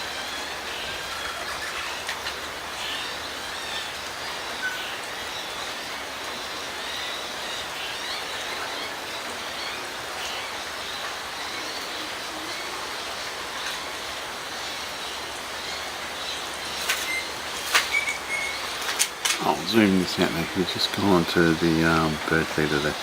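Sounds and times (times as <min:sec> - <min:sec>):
faint bird chirps: 0:00.0 - 0:23.0
raindrops ticking: 0:00.0 - 0:23.0
steady rain hiss: 0:00.0 - 0:23.0.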